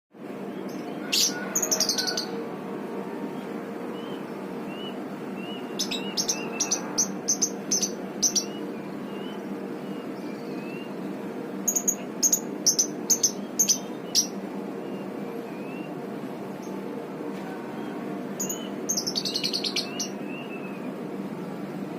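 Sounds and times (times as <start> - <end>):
steady low hum: 0.2 - 21.9.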